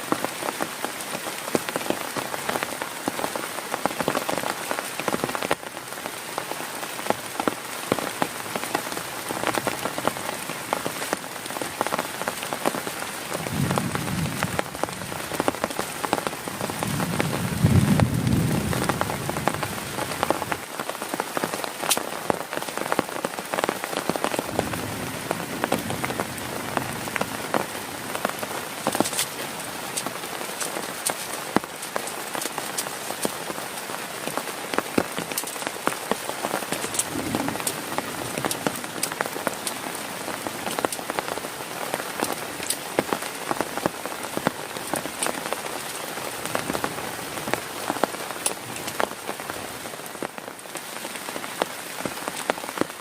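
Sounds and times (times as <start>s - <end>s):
heavy rain on a tent: 0.0s - 53.0s.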